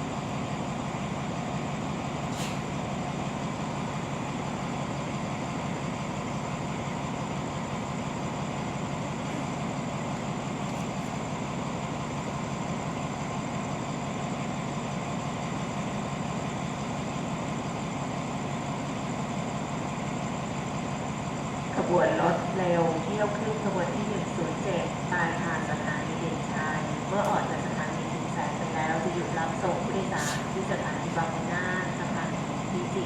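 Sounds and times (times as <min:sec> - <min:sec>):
diesel train idling: 0:00.0 - 0:33.0.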